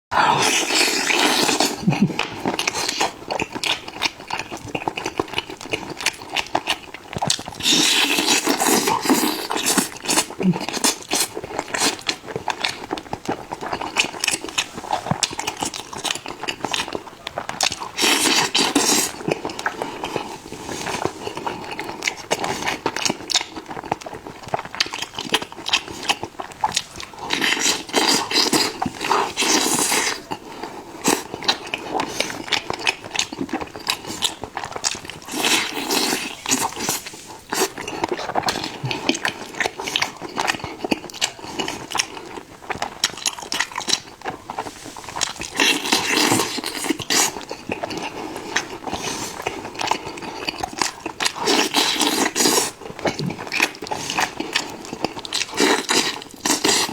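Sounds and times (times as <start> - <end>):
person chewing crunchy food: 0.1 - 56.9.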